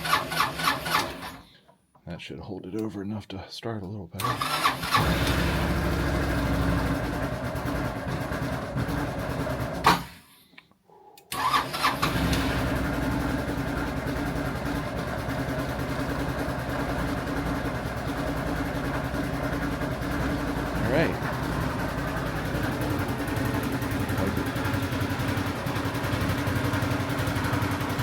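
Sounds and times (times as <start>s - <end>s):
scooter engine starting and idling: 0.0s - 1.6s, 4.2s - 10.3s, 11.3s - 28.0s.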